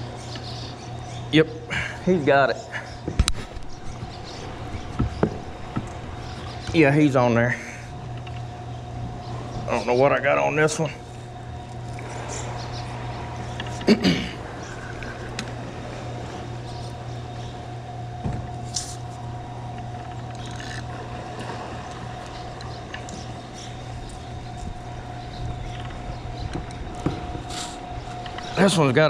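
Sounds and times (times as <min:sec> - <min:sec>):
constant low hum: 0:00.0 - 0:29.0.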